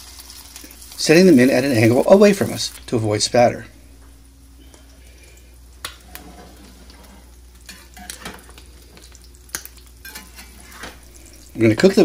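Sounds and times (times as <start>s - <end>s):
food sizzling in a skillet: 0.0s - 4.3s, 4.9s - 12.0s.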